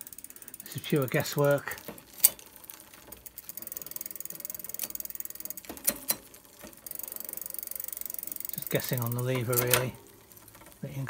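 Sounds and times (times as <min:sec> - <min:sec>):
bicycle chain clacks: 0:00.0 - 0:11.0
bicycle freewheel ticking: 0:00.0 - 0:11.0.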